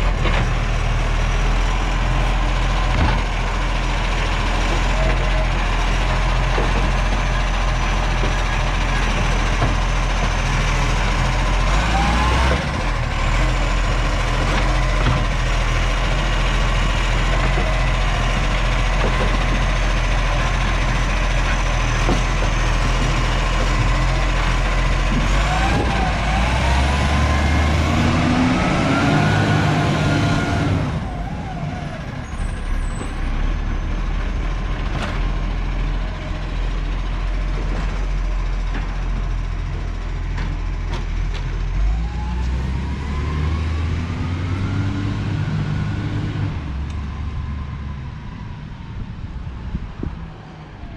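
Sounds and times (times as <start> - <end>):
garbage truck engine droning: 0.0 - 50.9.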